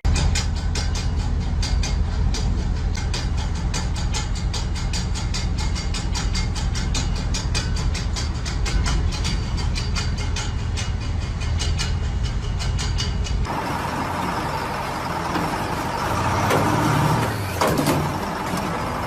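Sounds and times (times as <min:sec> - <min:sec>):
machine low rumble: 0:00.0 - 0:19.0.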